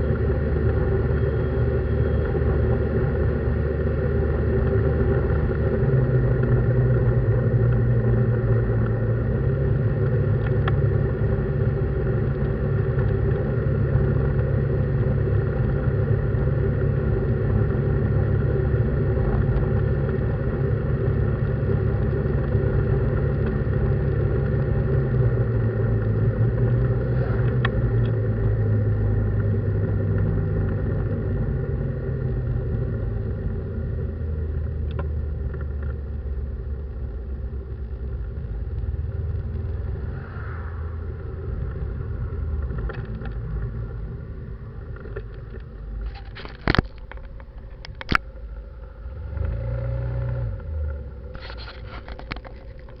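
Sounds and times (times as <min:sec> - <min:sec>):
engine hum: 0:00.0 - 0:53.0.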